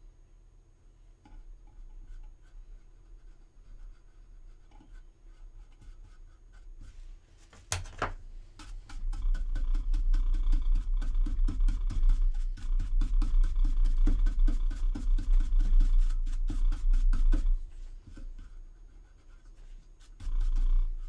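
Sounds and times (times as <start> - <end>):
brush tapping: 1.2 - 21.0
fingertip rubbing plastic: 1.2 - 21.0
scrape: 1.3 - 7.7, 8.4 - 21.0.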